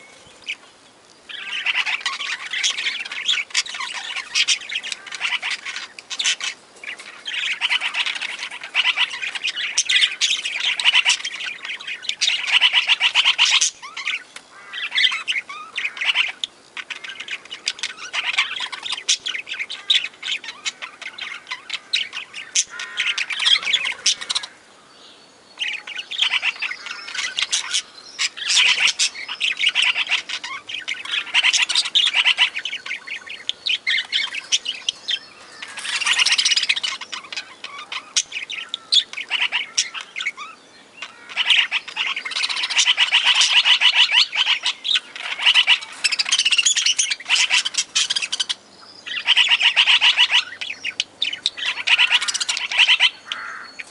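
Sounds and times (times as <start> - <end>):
parakeets chattering and squawking: 0.0 - 24.7, 25.6 - 53.9.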